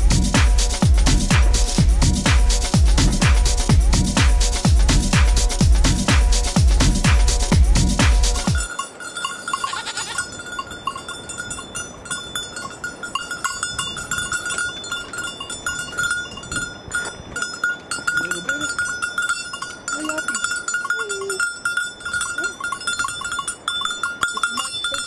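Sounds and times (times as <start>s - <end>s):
livestock bells clanking: 0.0s - 25.0s.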